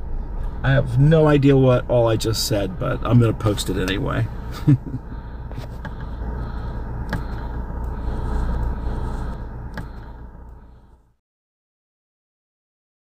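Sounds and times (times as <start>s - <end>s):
car road and engine rumble: 0.0s - 11.2s.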